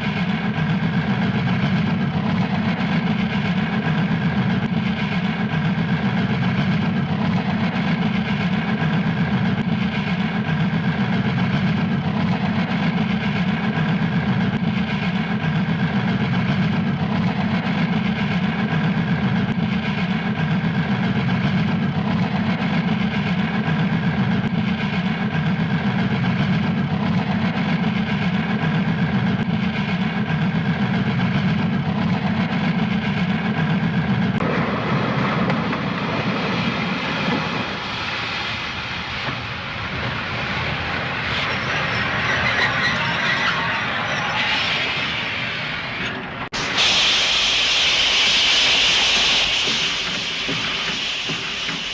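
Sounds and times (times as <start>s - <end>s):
steam locomotive chuffing: 0.0s - 51.9s.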